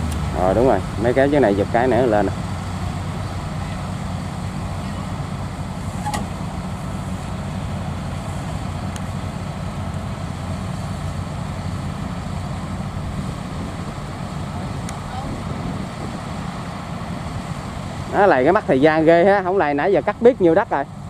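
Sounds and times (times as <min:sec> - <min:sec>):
harvester diesel engine running: 0:00.0 - 0:21.0.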